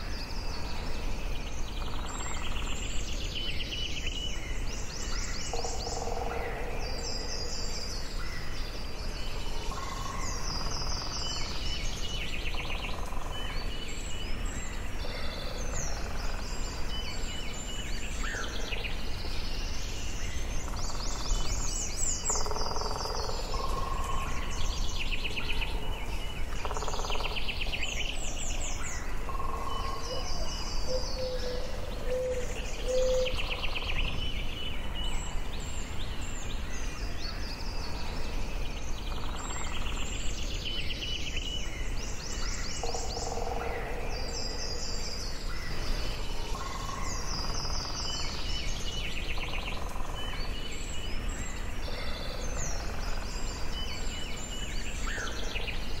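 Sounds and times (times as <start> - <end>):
birds singing: 0.0 - 56.0
steady low background noise: 0.0 - 56.0.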